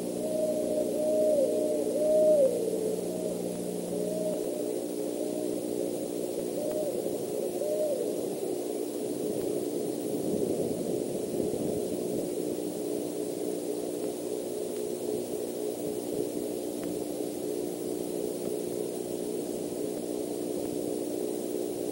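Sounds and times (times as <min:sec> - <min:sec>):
low even hum: 0:00.0 - 0:21.9
steady hiss: 0:00.0 - 0:21.9.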